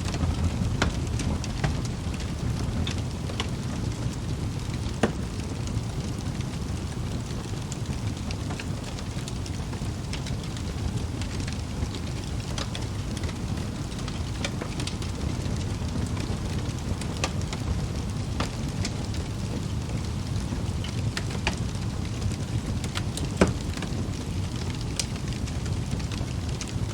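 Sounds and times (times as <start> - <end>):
fire crackling in fireplace: 0.0 - 26.9.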